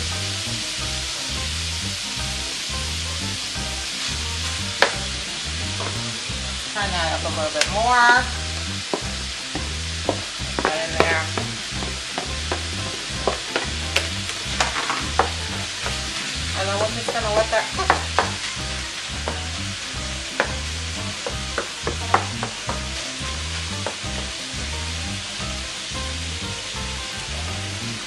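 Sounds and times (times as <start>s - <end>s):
meat and onions sizzling: 0.0s - 28.0s.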